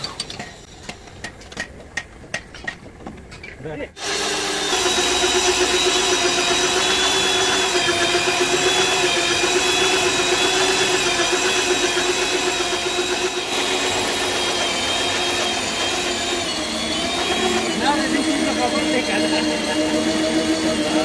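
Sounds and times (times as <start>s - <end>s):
electric drill boring through steel: 4.0s - 21.0s.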